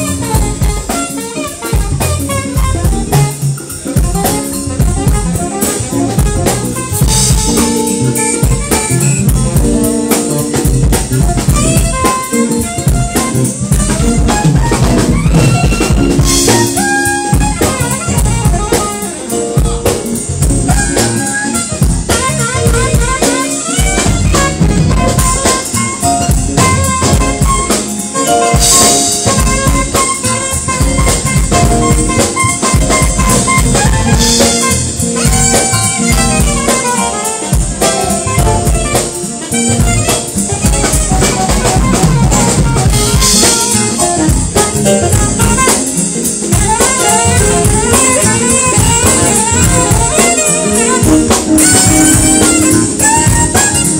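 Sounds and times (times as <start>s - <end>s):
drum kit: 0.0s - 53.9s
electric bass: 0.0s - 53.9s
guitar: 0.0s - 53.9s
keyboard: 0.0s - 53.9s
saxophone melody: 0.0s - 53.9s.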